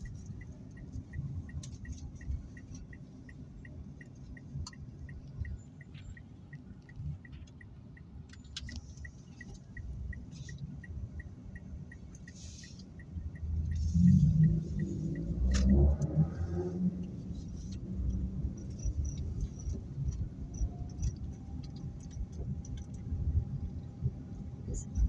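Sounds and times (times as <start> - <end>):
engine and road rumble: 0.0 - 25.0
turn signal ticking: 0.0 - 25.0.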